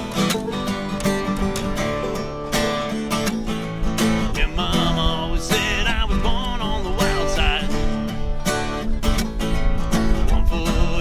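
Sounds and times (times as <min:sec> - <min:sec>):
bending lead guitar line: 0:00.0 - 0:11.0
bluegrass banjo and guitars: 0:00.0 - 0:11.0.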